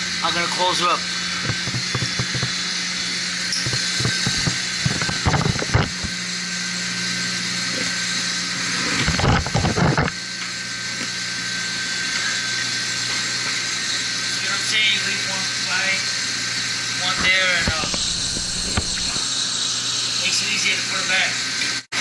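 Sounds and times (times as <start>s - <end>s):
pump and motor humming: 0.0s - 22.0s.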